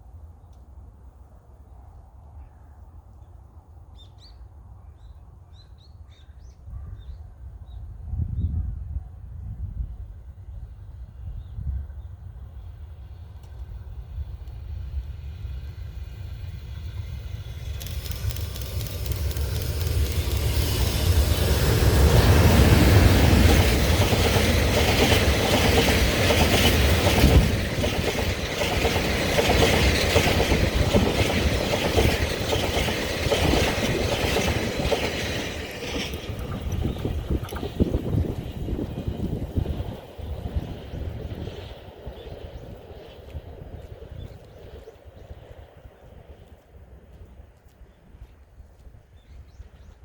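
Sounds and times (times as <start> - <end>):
wind buffeting microphone: 6.7 - 50.0
freight train passing: 7.4 - 48.2.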